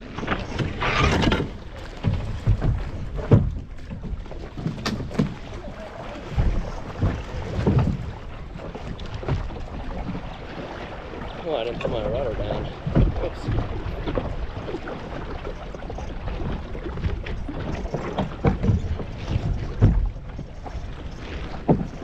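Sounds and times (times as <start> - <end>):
boat thumps and knocks: 0.0 - 22.0
water sloshing: 0.0 - 22.0.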